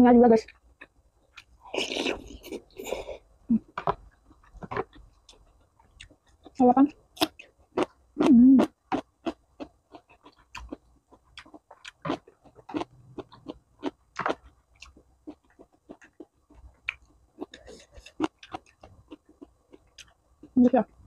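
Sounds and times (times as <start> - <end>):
close chewing and mouth sounds: 0.4 - 21.0.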